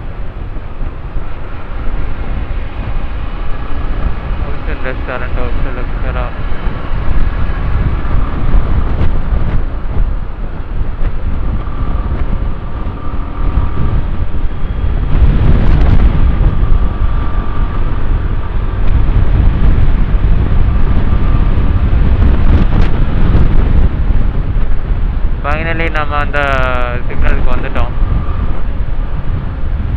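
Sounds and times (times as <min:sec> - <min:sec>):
motorcycle running: 0:00.0 - 0:29.9
wind buffeting microphone: 0:00.0 - 0:29.9.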